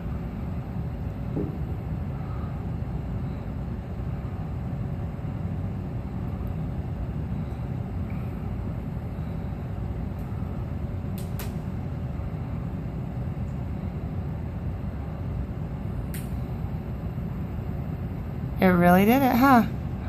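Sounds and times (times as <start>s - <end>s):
fan wind buffeting microphone: 0.0s - 20.0s.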